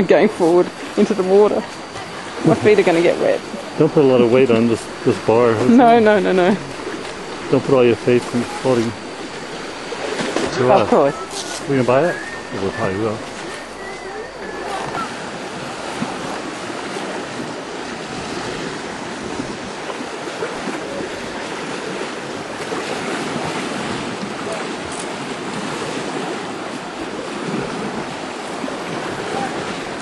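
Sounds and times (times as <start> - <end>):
river water splashing: 0.0 - 30.0.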